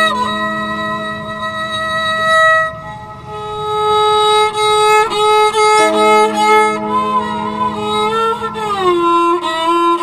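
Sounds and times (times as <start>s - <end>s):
bowed strings playing held notes: 0.0s - 10.0s
low held note: 0.0s - 10.0s.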